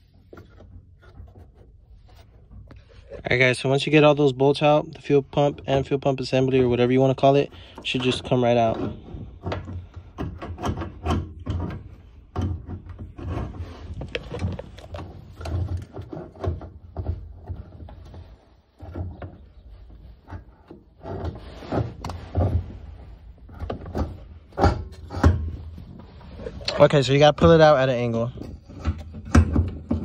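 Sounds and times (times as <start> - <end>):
fuel pump clicks and scrapes: 0.0 - 30.0.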